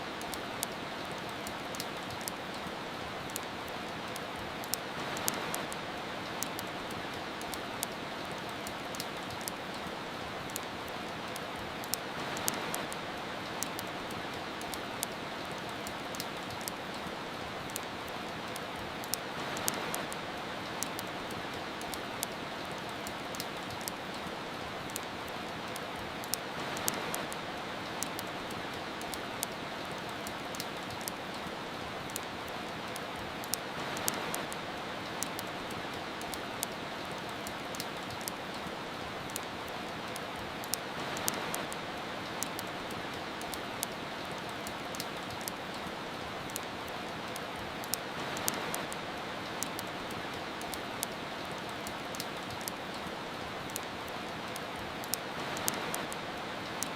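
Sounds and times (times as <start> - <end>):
soft rain hiss: 0.0 - 56.9
fireplace crackling: 0.1 - 56.9.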